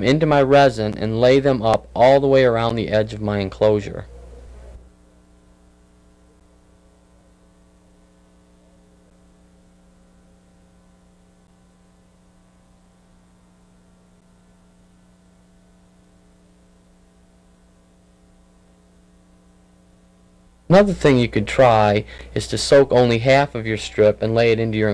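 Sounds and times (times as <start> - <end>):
faint electrical hum: 0.0 - 24.9.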